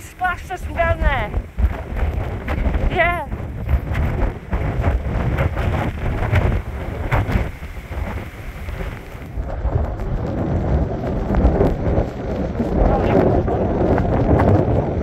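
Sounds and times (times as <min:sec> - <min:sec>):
waves breaking: 0:00.0 - 0:15.0
wind buffeting microphone: 0:00.0 - 0:15.0.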